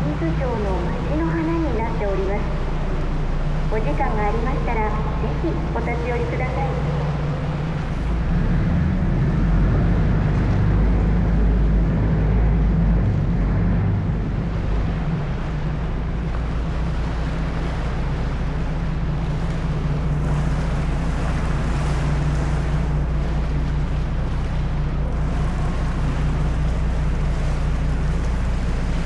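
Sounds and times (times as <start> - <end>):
boat engine running: 0.0 - 29.0
water rushing past hull: 0.0 - 29.0.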